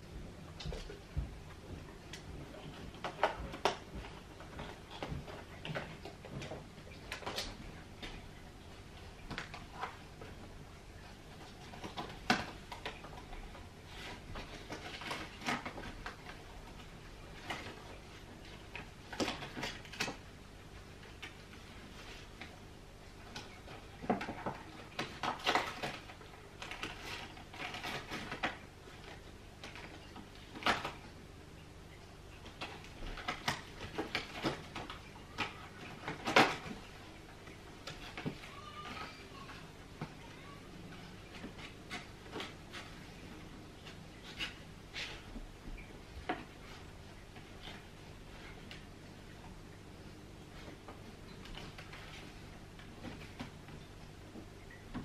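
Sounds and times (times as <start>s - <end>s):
cardboard and paper rustling: 0.6s - 31.3s, 32.4s - 49.6s, 50.4s - 55.0s.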